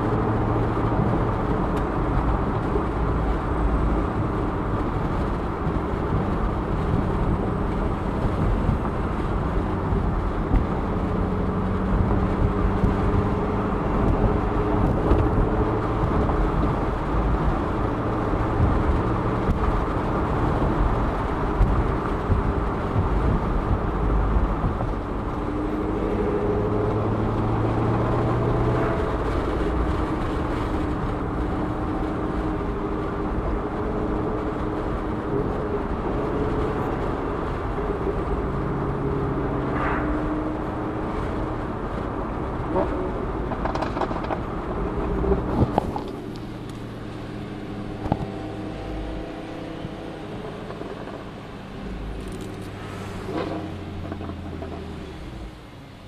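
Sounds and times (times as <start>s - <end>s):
car engine cruising: 0.0s - 56.0s
tyre and road noise: 0.0s - 56.0s.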